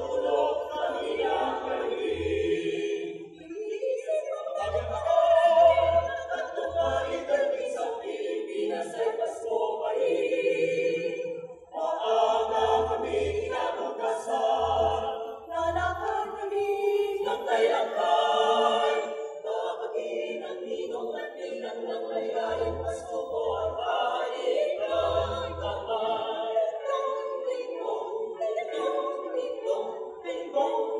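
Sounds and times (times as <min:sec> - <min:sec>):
mixed choir singing: 0:00.0 - 0:30.9.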